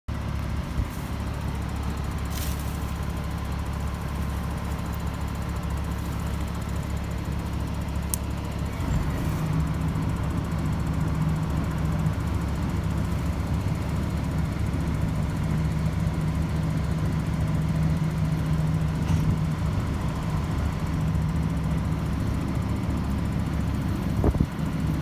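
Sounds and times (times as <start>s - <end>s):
truck engine running: 0.1s - 25.0s.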